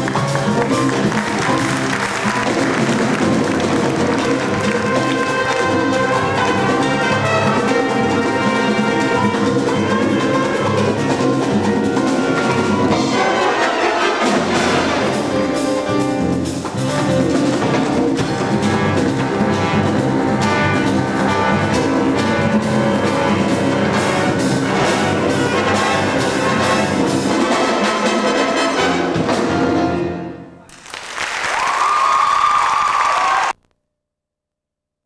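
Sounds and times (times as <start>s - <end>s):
trumpets and trombones: 0.0s - 30.4s
jazz big band playing: 0.0s - 30.5s.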